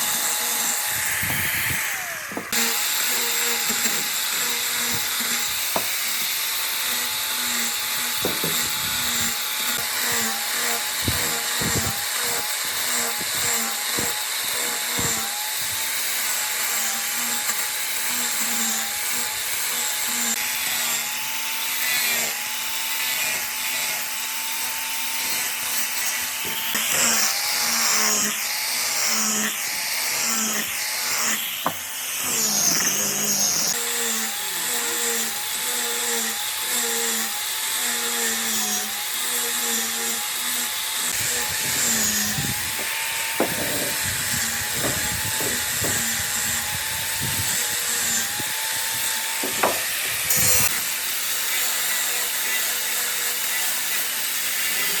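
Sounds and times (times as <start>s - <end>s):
cutting or grinding noise: 0.0s - 55.0s
power tool motor whine: 0.0s - 55.0s.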